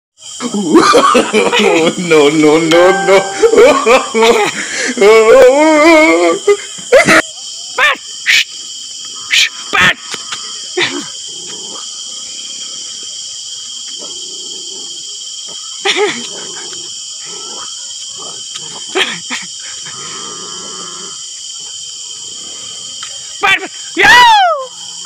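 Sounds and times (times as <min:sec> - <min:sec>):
high-pitched insect drone: 0:00.2 - 0:25.0.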